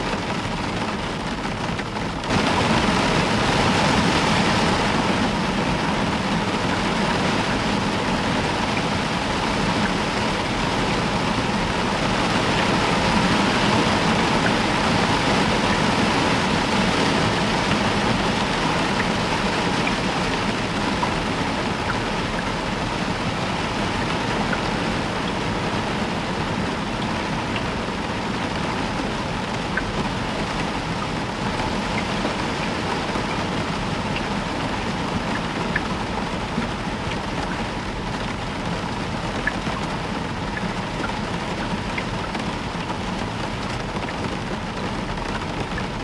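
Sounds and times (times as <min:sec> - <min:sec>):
heavy rain on a roof: 0:00.0 - 0:46.0
raindrop clicks: 0:00.0 - 0:46.0.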